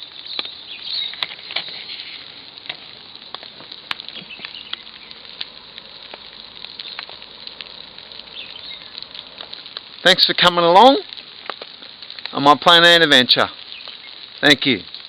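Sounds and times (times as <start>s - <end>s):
rain pattering: 0.0s - 15.0s
sharp drops ticking: 2.3s - 15.0s.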